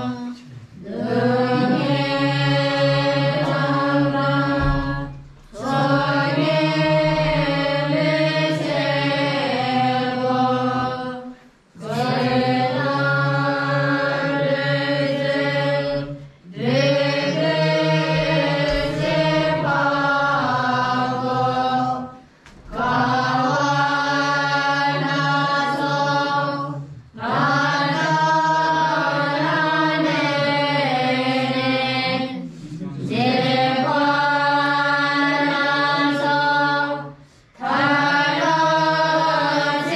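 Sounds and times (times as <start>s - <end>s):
voices chanting a prayer: 0.0s - 39.9s.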